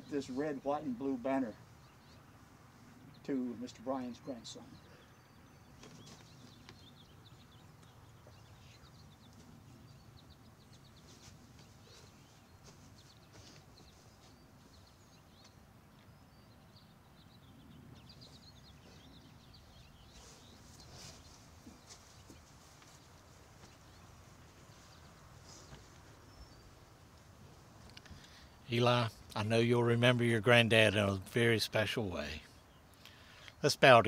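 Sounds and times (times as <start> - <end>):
distant birds chirping: 0.0 - 34.0.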